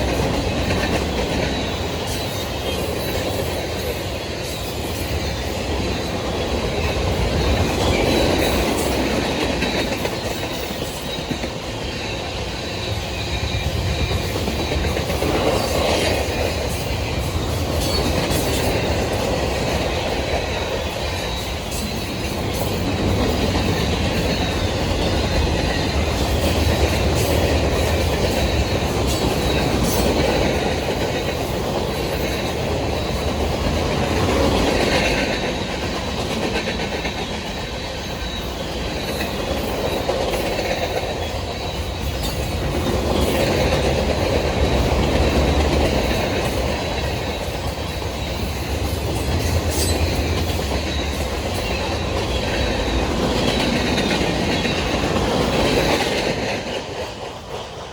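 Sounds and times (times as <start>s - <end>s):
train wheels clicking over rail joints: 0.0s - 57.9s.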